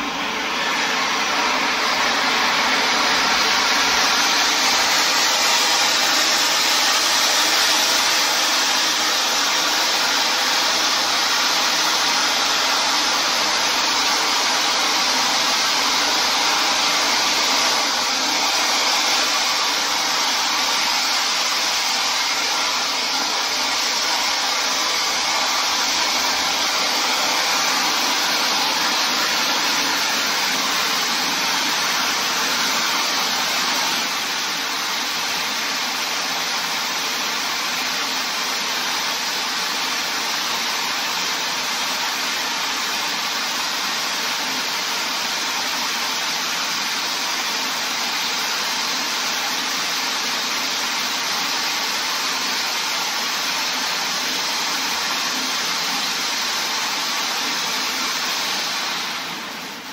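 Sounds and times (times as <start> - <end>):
spark fountain hissing: 0.0 - 59.9.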